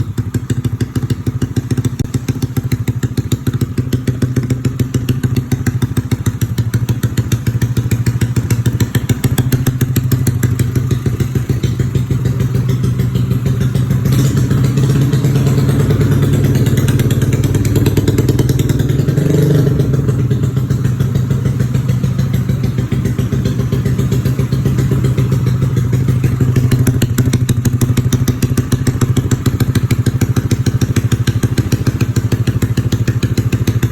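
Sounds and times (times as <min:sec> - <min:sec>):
scooter engine idling and revving: 0:00.0 - 0:33.9.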